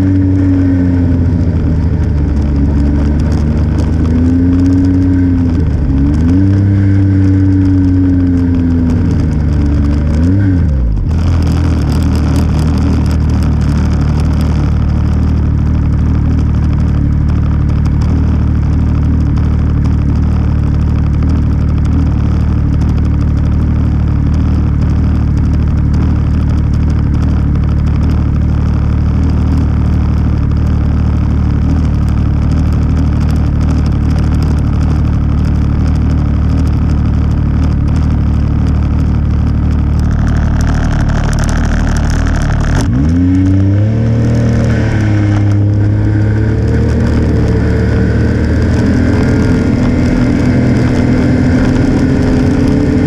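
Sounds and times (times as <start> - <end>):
vehicle engine idling and revving: 0.0 - 53.0.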